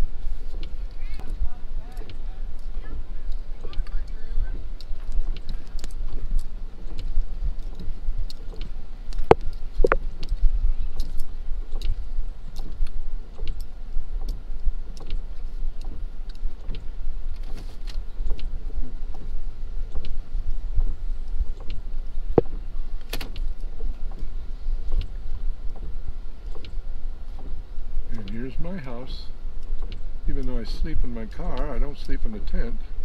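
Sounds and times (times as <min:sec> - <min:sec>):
car interior low rumble: 0:00.0 - 0:33.0
small clicks and rattles: 0:00.4 - 0:29.0.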